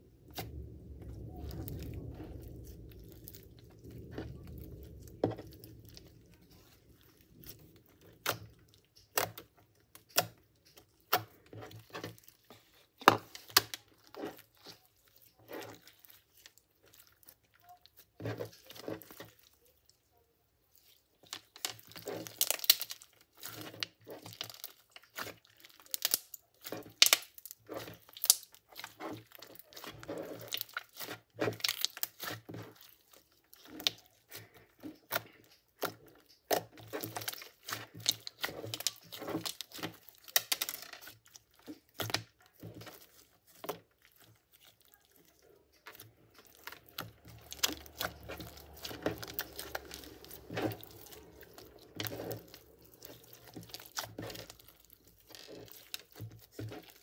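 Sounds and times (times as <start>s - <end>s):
slime clicking and popping: 0.2s - 12.2s, 21.2s - 57.0s.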